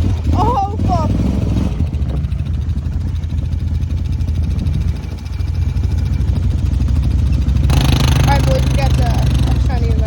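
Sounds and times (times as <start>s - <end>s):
off-road vehicle engine running: 0.0s - 10.0s.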